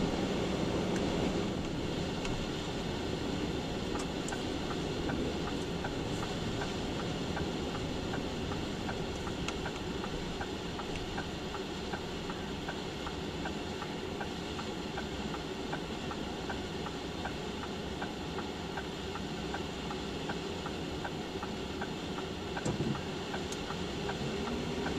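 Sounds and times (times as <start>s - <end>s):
car engine running: 0.0s - 24.9s
faint regular tick: 1.0s - 2.4s, 3.8s - 24.9s.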